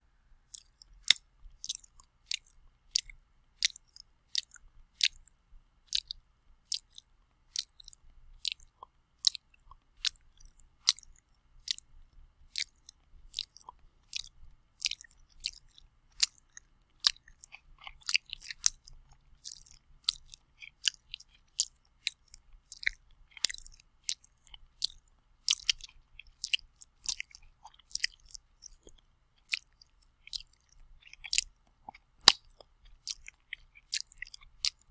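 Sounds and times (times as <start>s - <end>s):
lips smacking while eating: 0.5s - 11.9s, 12.6s - 34.9s.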